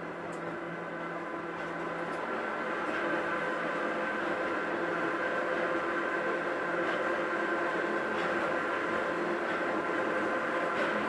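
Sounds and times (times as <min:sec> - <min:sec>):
electric train motors droning: 0:00.0 - 0:11.0.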